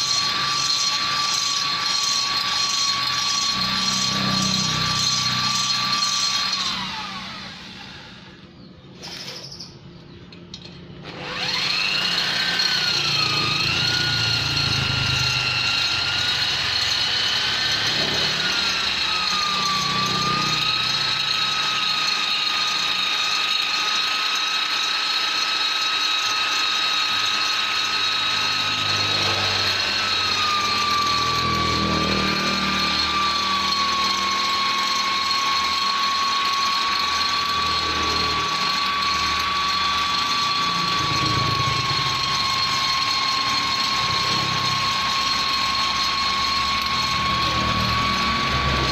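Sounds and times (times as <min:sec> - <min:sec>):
rotary grinder whining: 0:00.0 - 0:48.9.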